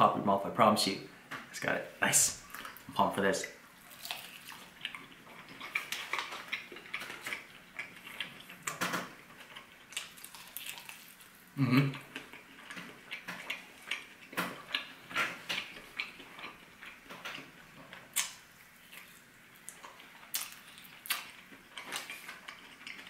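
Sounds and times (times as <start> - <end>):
close chewing with mouth clicks: 2.4 - 2.9, 3.8 - 23.0.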